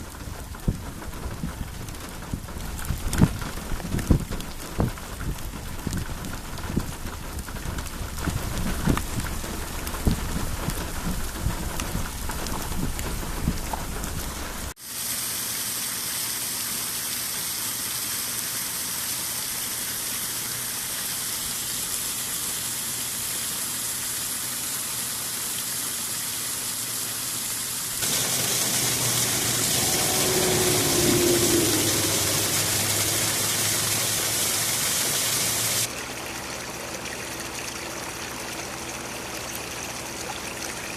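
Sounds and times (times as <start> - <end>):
rain falling: 0.0 - 14.8, 15.8 - 36.2.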